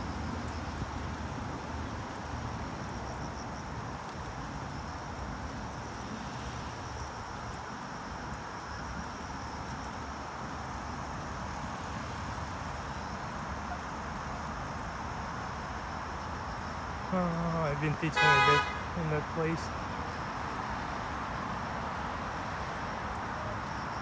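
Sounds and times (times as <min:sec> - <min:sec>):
faint high insect trill: 0:00.0 - 0:24.0
tyres on brick paving: 0:00.0 - 0:24.0.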